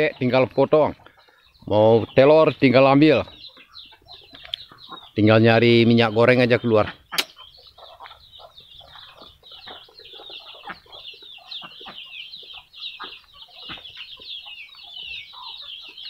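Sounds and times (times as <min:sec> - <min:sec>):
chicks peeping: 0:00.0 - 0:16.0
hens clucking: 0:00.0 - 0:16.0.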